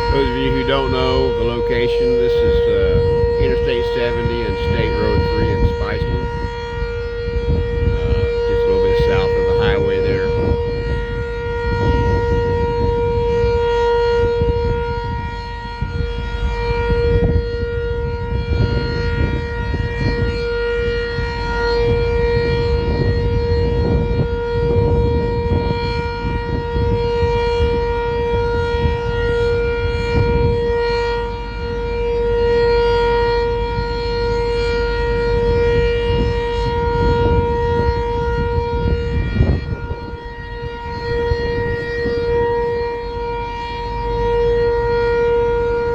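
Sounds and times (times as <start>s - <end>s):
warning siren steady tone: 0.0s - 45.9s.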